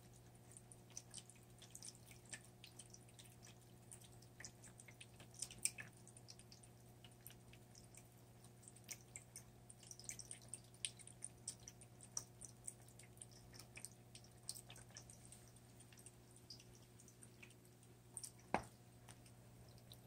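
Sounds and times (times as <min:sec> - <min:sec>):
cat lapping water: 0:00.0 - 0:20.0
wet clicks and drips: 0:00.0 - 0:20.0.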